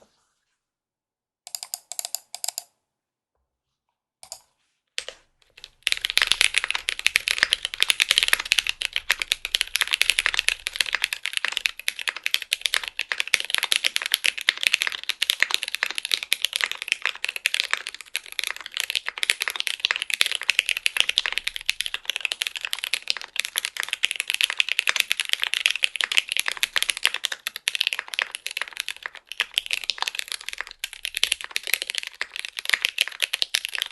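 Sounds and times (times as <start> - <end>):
typing on mechanical keyboard: 1.5 - 2.7, 4.2 - 4.4, 5.0 - 33.9.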